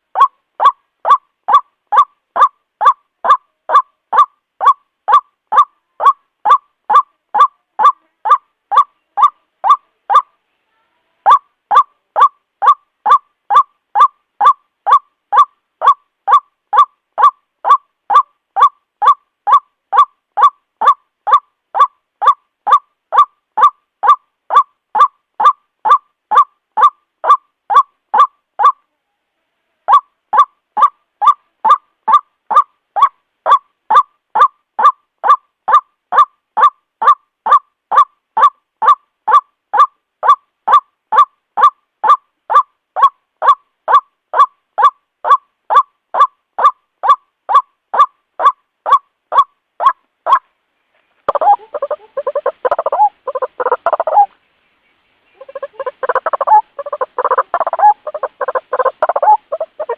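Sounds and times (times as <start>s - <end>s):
waterhen croaking call: 0.0s - 10.3s, 11.3s - 28.8s, 29.9s - 50.5s, 51.3s - 54.4s, 55.2s - 59.9s.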